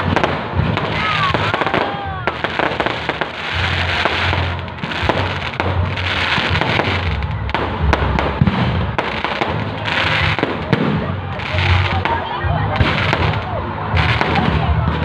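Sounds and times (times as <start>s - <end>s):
fireworks crackling hiss: 0.0s - 12.2s, 12.8s - 14.7s
fireworks shells bursting: 0.0s - 14.6s.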